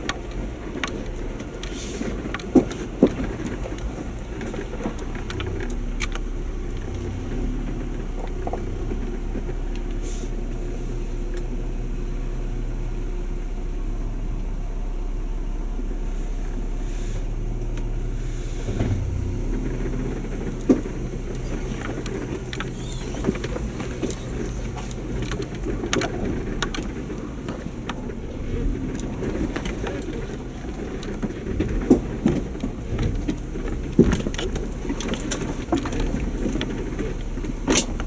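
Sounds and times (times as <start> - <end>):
low engine hum: 0.0 - 38.0
tires knocking over loose rocks: 0.0 - 38.0.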